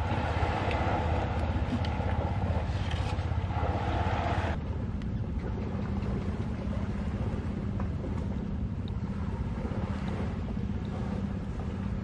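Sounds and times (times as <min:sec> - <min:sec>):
low motor drone: 0:00.0 - 0:12.0.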